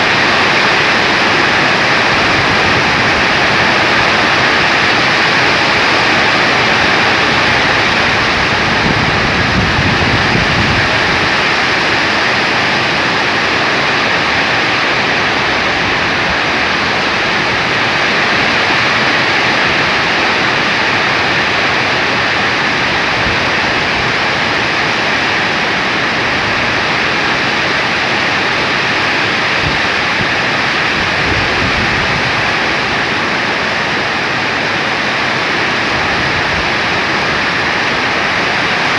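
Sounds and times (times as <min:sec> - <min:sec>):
heavy rain pouring: 0:00.0 - 0:38.9
wind gusting: 0:00.0 - 0:38.9.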